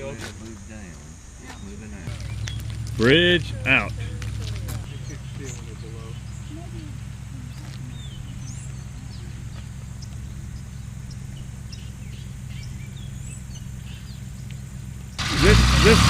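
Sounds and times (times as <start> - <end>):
steady low hum: 0.0 - 16.0
birds chirping and whistling: 1.2 - 15.6.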